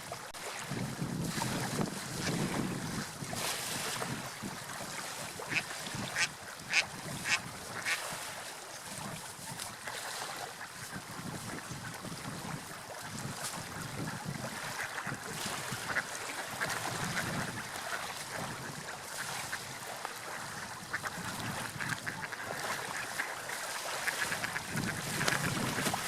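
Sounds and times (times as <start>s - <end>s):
sea waves: 0.0s - 26.0s
wind: 0.0s - 26.0s.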